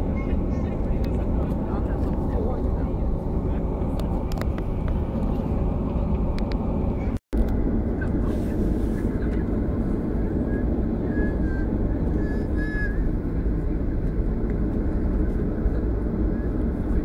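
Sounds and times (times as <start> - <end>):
jet engines roaring in cabin: 0.0 - 17.0
wheels rumbling on runway: 0.0 - 17.0.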